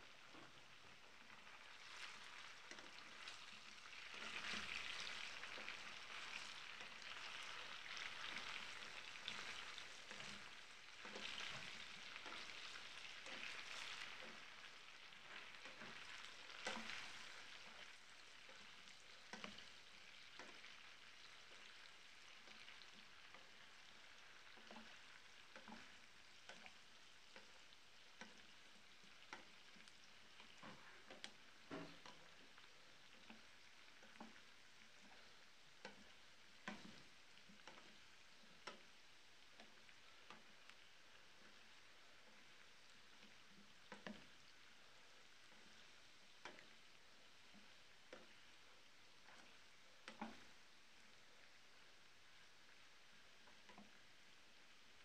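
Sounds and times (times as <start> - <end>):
potatoes sizzling in a pan: 0.0 - 55.0.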